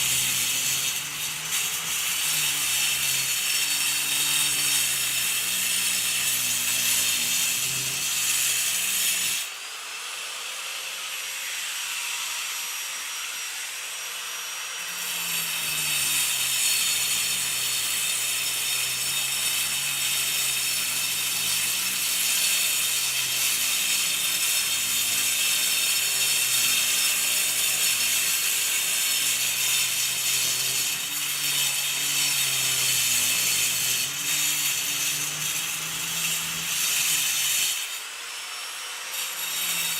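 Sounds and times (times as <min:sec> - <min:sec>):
angle grinder cutting concrete: 0:00.0 - 0:39.9.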